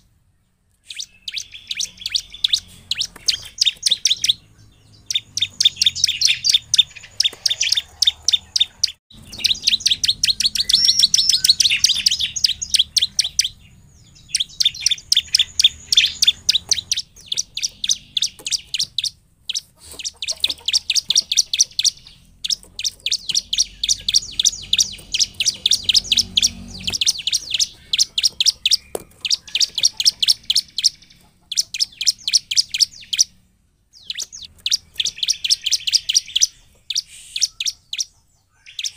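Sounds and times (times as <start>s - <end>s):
bird chirping rapidly: 0.0s - 38.9s.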